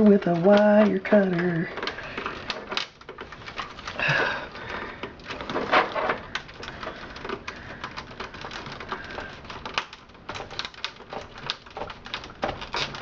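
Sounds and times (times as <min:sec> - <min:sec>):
plastic cables clicking and rustling: 0:00.0 - 0:13.0.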